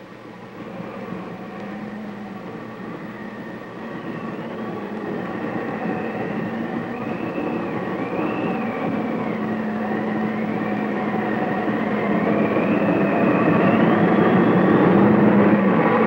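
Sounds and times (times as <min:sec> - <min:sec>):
tornado wind rumble with whistling: 0:00.0 - 0:16.0.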